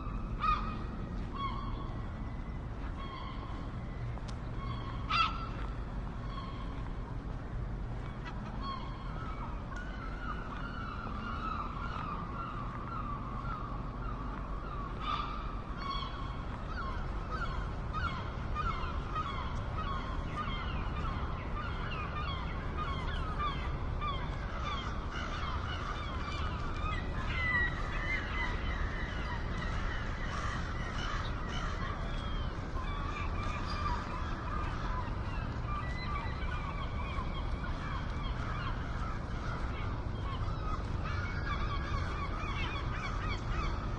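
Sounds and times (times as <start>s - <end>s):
seagulls calling: 0.0s - 43.9s.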